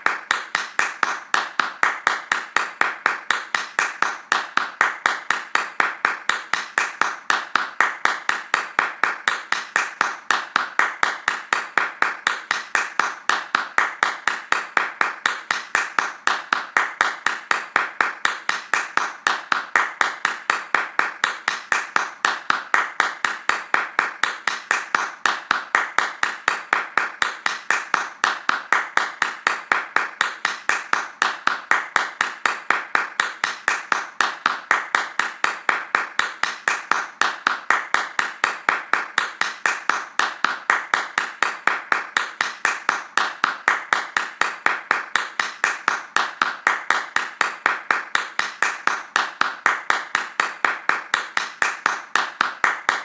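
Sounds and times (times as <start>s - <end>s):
hands clapping fast: 0.0s - 53.0s.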